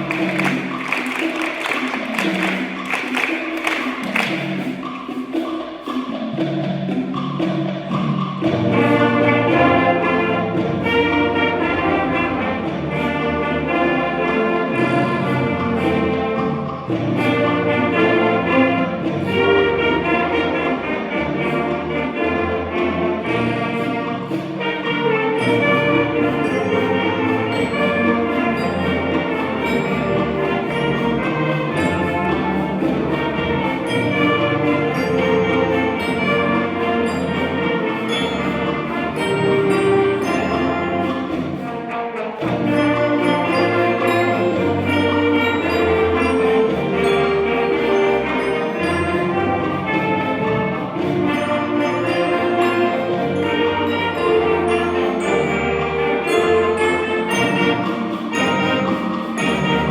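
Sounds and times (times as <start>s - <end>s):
concert band playing: 0.0s - 59.9s.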